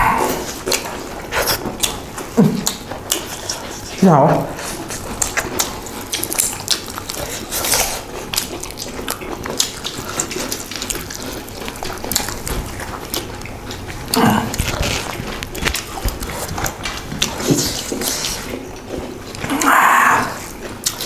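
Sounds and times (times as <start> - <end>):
people chewing and lip-smacking: 0.0 - 21.0.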